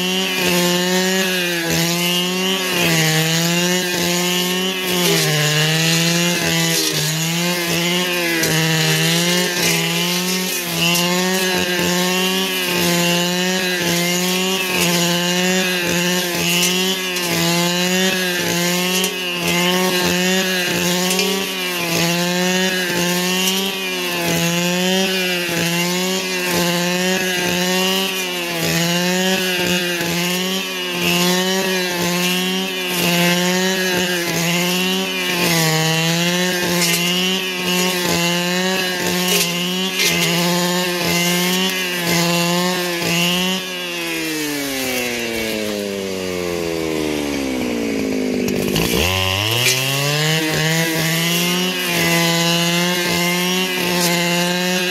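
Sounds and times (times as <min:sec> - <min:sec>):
brush cutter engine revving: 0:00.0 - 0:54.9.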